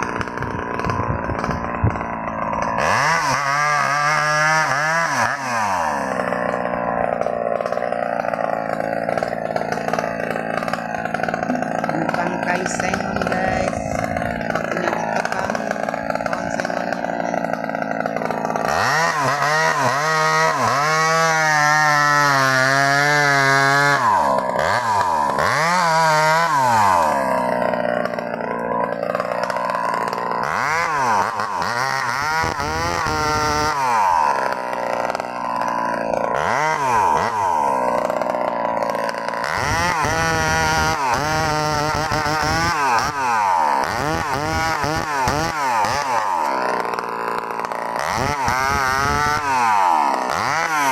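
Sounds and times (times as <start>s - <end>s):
chainsaw cutting tree trunk: 0.0s - 50.9s.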